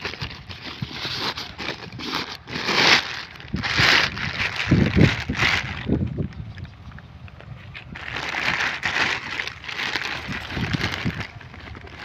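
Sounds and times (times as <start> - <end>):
plastic sheet rustling and crinkling: 0.0 - 6.4, 7.6 - 12.0.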